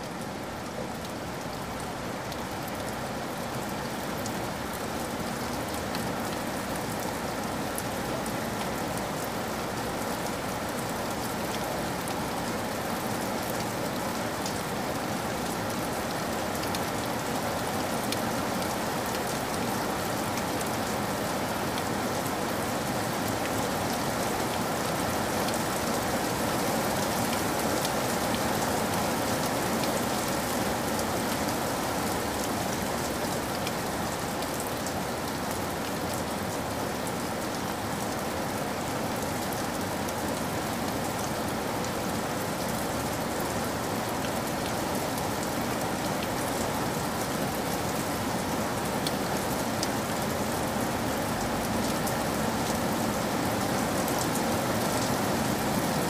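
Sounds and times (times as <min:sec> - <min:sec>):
heavy rain splashing: 0:00.1 - 0:56.0.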